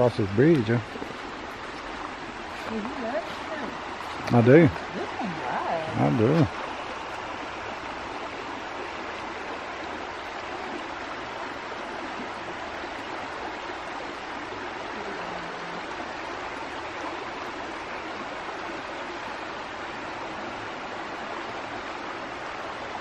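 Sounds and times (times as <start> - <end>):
creek rushing over stones: 0.0 - 23.0.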